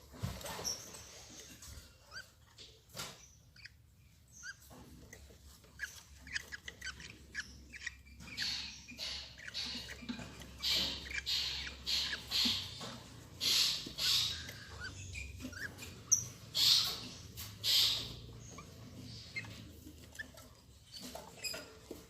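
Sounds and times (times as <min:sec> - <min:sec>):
lovebirds harsh raspy calls: 0:03.2 - 0:21.7.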